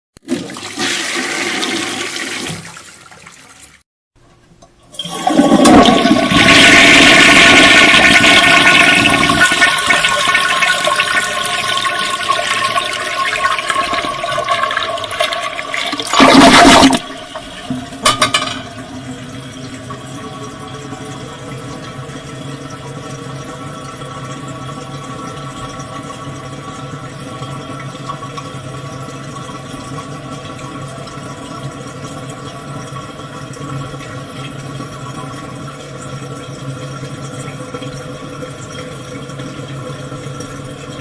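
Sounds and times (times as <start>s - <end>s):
toilet flushing: 0.2s - 3.8s, 4.8s - 41.0s
water running: 4.8s - 41.0s.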